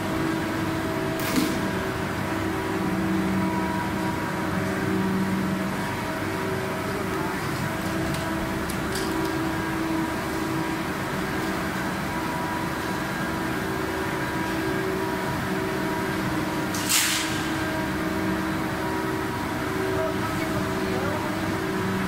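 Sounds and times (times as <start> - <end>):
machine hum with constant tones: 0.0 - 22.0.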